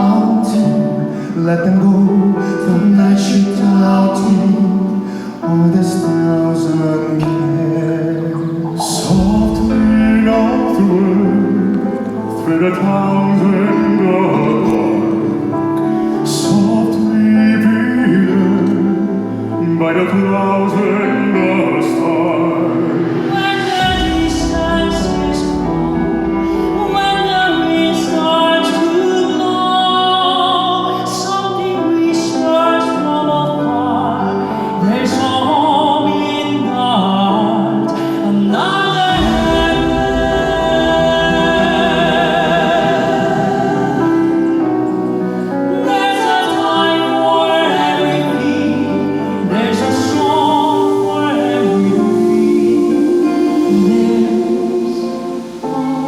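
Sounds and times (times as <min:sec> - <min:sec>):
band and orchestral accompaniment: 0:00.0 - 0:31.2, 0:34.2 - 0:56.0
male vocal quartet singing: 0:00.0 - 0:56.0.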